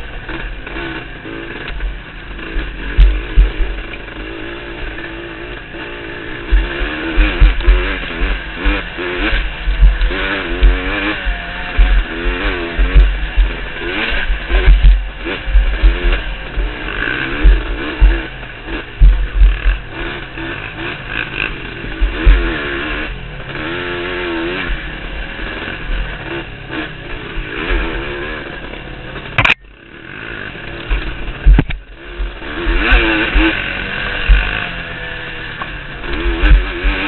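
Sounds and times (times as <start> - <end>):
quad engine revving: 0.0 - 37.0.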